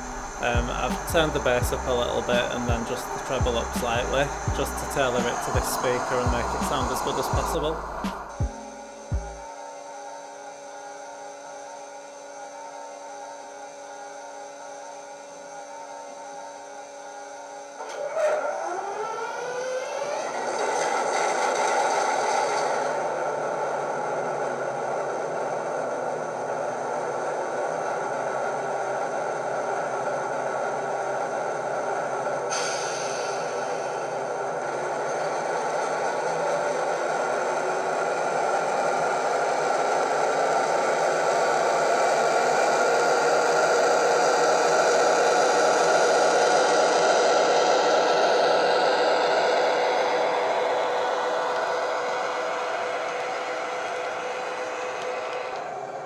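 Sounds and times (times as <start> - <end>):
diesel locomotive engine sound: 0.0 - 56.0.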